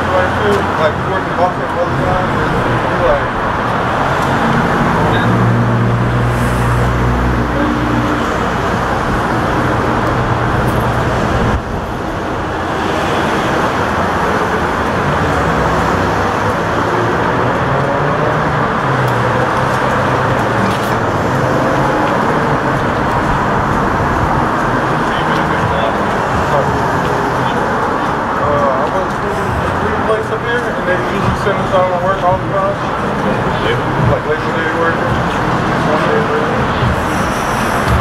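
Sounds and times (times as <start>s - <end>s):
street traffic noise: 0.0s - 38.0s.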